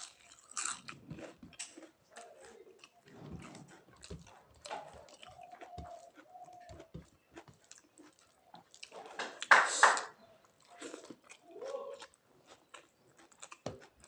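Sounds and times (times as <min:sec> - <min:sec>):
close chewing: 0:00.0 - 0:14.0.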